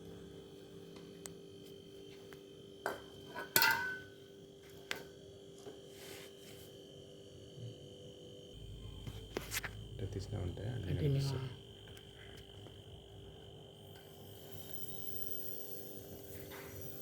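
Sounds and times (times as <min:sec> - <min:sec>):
refrigerator compressor hum: 0:00.0 - 0:17.0.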